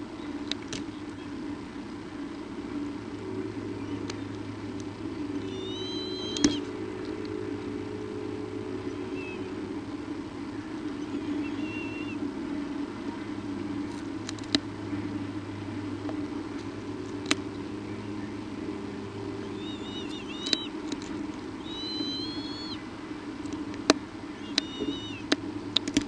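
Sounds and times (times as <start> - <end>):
steady low hum: 0.0 - 26.0
young birds peeping: 0.0 - 26.0.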